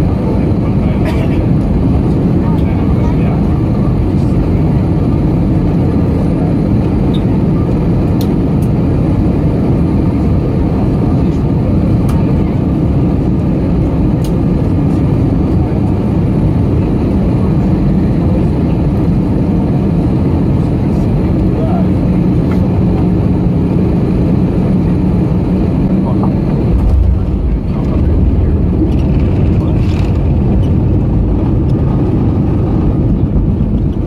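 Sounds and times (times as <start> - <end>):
airplane cabin roar: 0.0 - 34.0.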